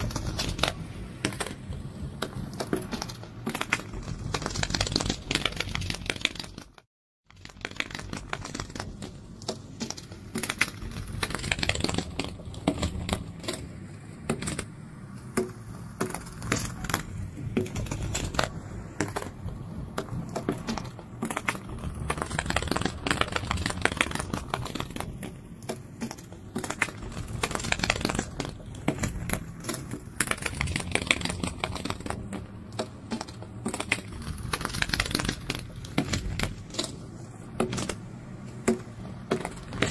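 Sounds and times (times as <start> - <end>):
dense crackling and clicking: 0.0 - 39.9.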